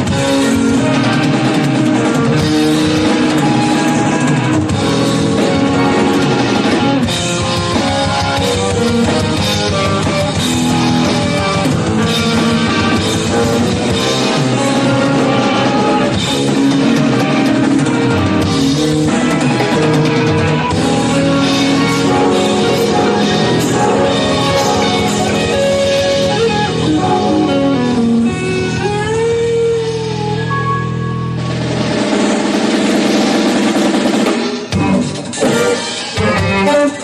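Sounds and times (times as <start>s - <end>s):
drum kit: 0.0s - 37.0s
electric guitar: 0.0s - 37.0s
live rock band playing: 0.0s - 37.0s.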